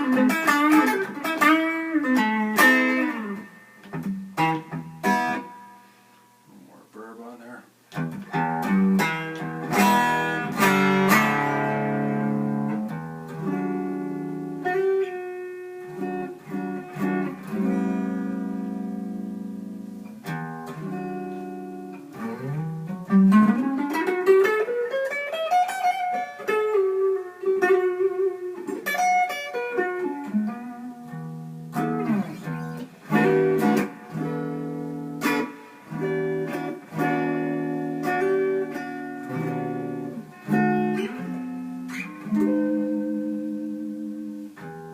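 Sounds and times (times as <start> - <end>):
clean electric guitar with reverb: 0.0 - 6.6, 7.9 - 44.9.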